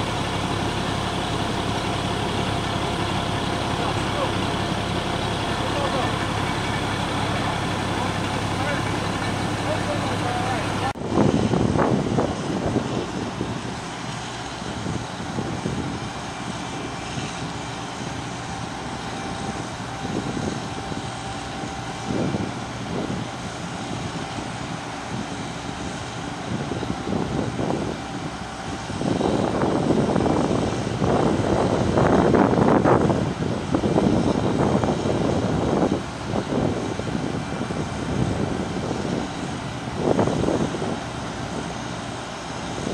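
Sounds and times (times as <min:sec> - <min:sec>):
engine drone: 0:00.0 - 0:42.9.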